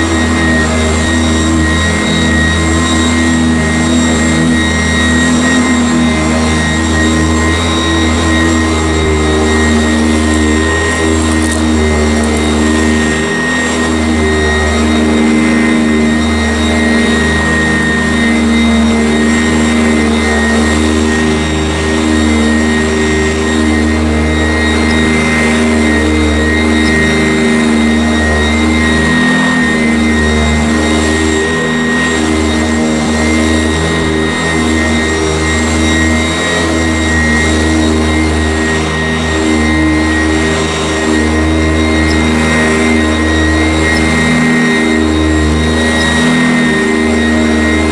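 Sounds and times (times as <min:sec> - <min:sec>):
vacuum cleaner motor humming: 0:00.0 - 0:47.9.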